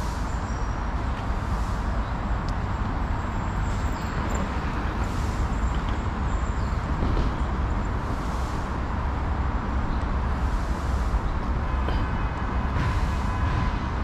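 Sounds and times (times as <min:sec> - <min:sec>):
deep rumble of traffic: 0:00.0 - 0:14.0.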